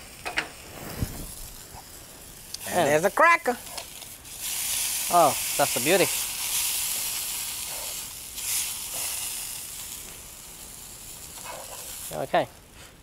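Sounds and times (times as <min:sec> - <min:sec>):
chicken sizzling in frying pan: 0:00.0 - 0:12.8.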